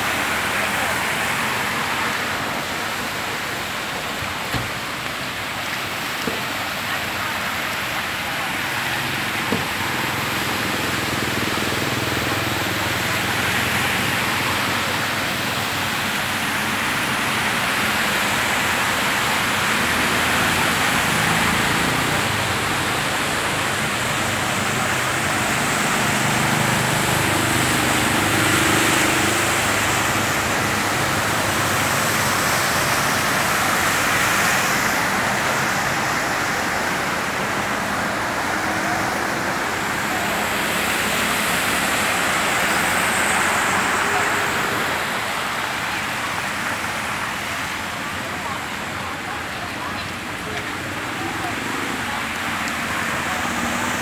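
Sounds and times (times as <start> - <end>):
heavy rain on a flooded road: 0.0 - 54.0
tyres splashing through water: 0.0 - 54.0
vehicle engines passing: 0.0 - 54.0.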